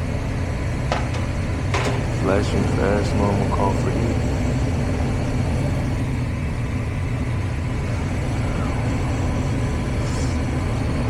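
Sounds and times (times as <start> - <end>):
gas furnace rumbling: 0.0 - 11.0.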